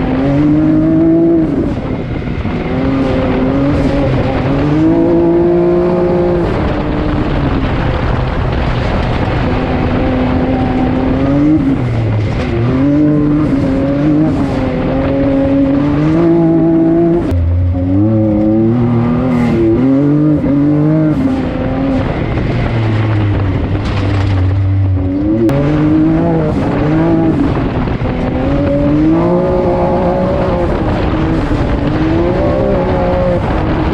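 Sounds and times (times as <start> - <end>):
vehicle engine revving: 0.0 - 33.9.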